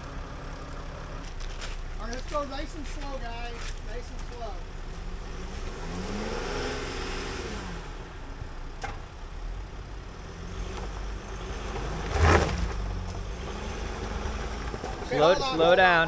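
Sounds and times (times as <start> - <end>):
van engine revving: 0.0 - 16.0.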